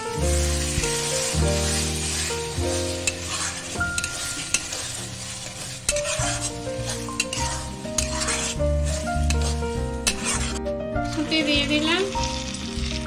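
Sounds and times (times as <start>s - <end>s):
background music: 0.0s - 13.0s
metal spatula scraping pan: 0.0s - 13.0s
sauce sizzling in oil: 0.0s - 13.0s.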